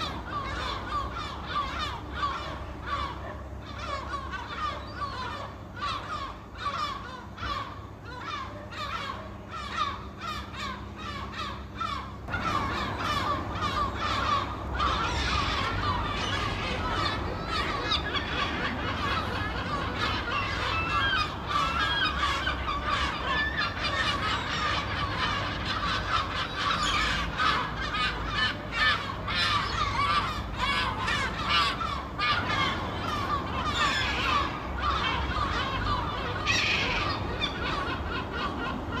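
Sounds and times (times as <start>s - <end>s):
seabirds calling: 0.0s - 39.0s.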